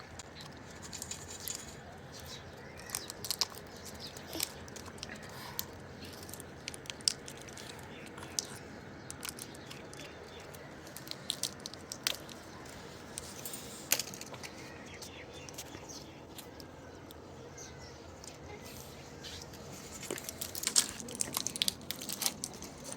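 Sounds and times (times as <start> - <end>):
parrots crunching food: 0.0 - 22.9.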